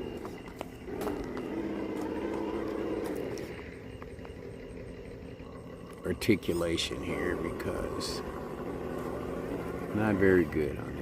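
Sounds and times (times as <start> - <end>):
electric motor whining: 0.0 - 11.0
tires clicking on rock: 0.0 - 11.0.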